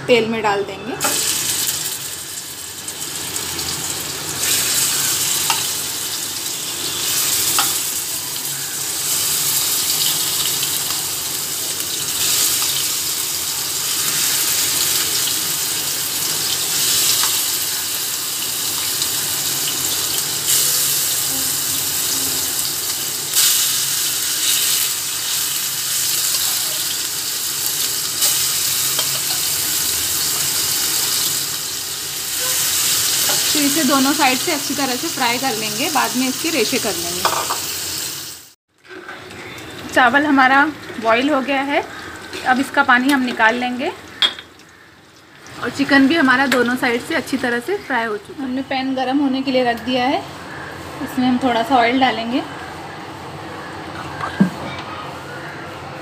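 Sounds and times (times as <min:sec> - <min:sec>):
chicken sizzling in oil: 0:01.0 - 0:48.5.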